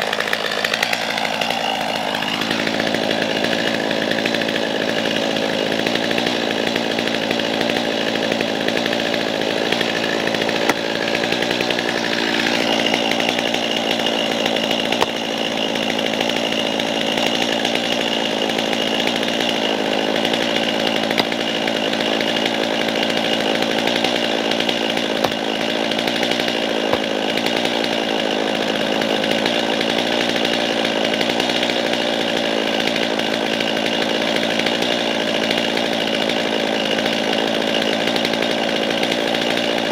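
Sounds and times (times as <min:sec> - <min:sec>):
machine motor running at high speed: 0:00.0 - 0:39.9.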